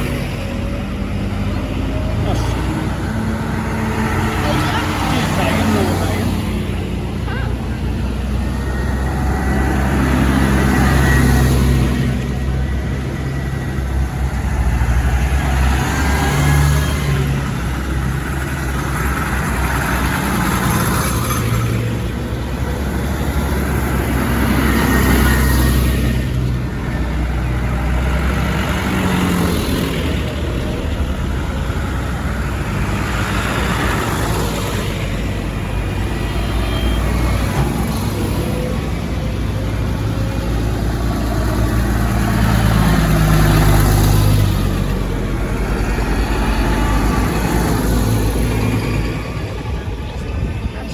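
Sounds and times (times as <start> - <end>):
tractors driving past: 0.0 - 50.9.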